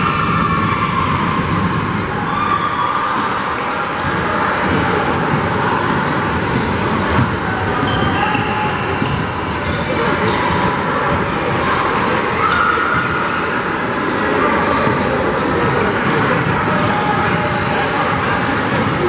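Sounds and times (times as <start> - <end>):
crowd chatter: 0.0 - 19.0.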